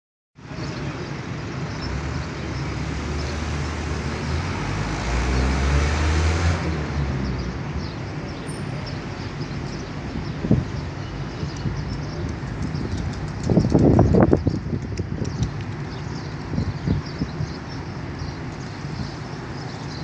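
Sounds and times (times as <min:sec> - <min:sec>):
road traffic roar: 0:00.4 - 0:20.0
vehicle passing with low rumble: 0:01.8 - 0:19.6.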